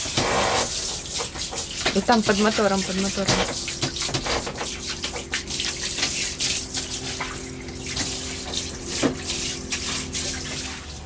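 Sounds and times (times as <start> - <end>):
shower head spraying water: 0.0 - 11.0.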